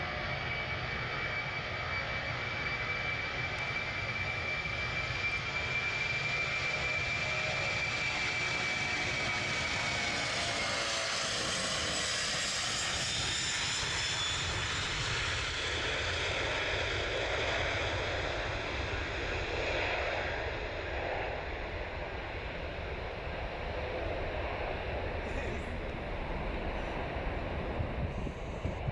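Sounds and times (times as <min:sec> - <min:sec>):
high engine whine: 0:00.0 - 0:28.9
jet engines roaring: 0:00.0 - 0:28.9.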